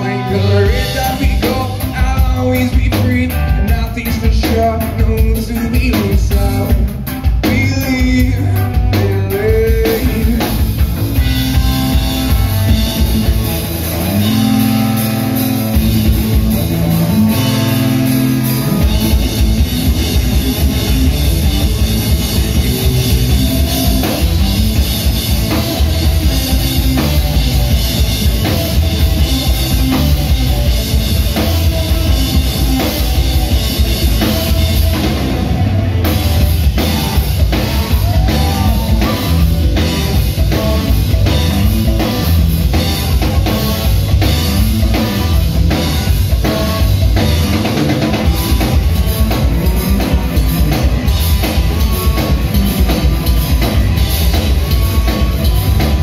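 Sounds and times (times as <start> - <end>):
electric guitar: 0.0 - 56.0
held bass notes: 0.0 - 56.0
steady drum beat: 0.0 - 56.0.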